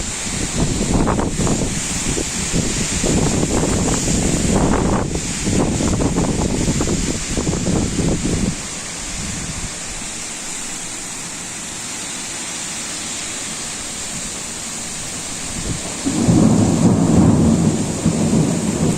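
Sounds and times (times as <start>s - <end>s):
heavy rain hissing: 0.0s - 18.9s.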